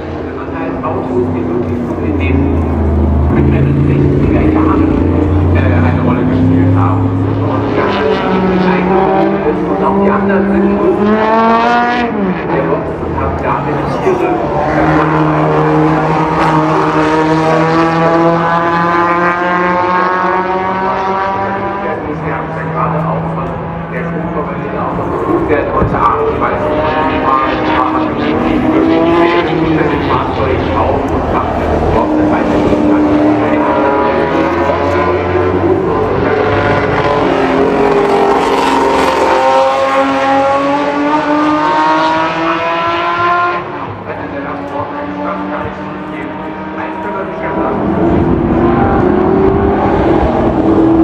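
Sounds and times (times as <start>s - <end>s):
racing car engine at high revs: 0.0s - 51.0s.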